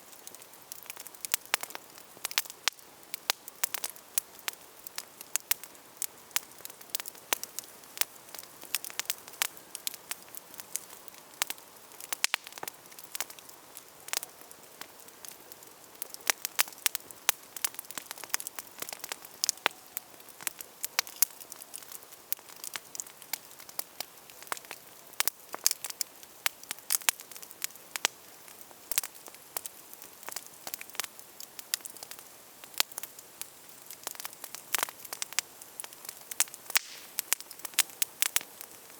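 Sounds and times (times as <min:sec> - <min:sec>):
campfire crackling and popping: 0:00.0 - 0:38.9
soft hiss of burning: 0:00.0 - 0:38.9.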